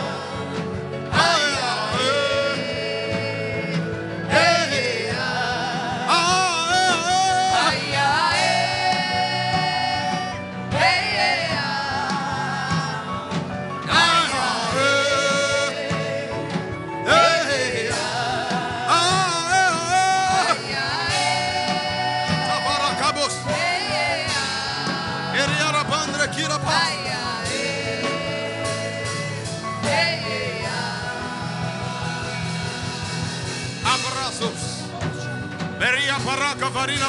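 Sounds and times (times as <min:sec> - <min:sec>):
person singing with vibrato: 0:00.0 - 0:34.0
instrumental accompaniment: 0:00.0 - 0:37.0.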